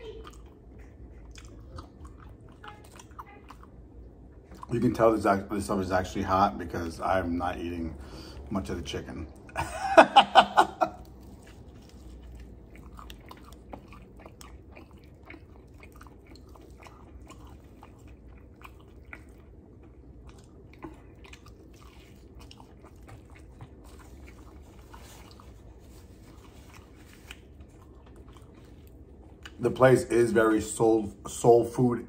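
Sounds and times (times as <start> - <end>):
man chewing crunchy chicken: 0.1 - 6.2, 9.3 - 30.1.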